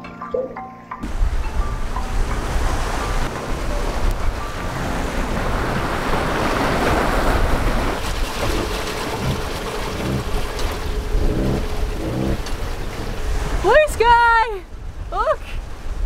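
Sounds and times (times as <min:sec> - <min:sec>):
water rushing along a hull: 0:01.0 - 0:16.0
wind buffeting microphone: 0:01.0 - 0:16.0.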